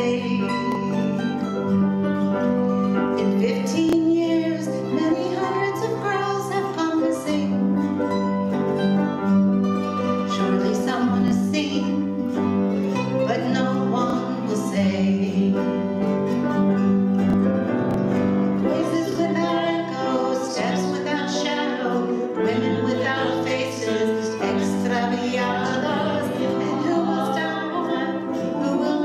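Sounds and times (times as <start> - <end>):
acoustic guitar: 0.0 - 29.0
grand piano: 0.0 - 29.0.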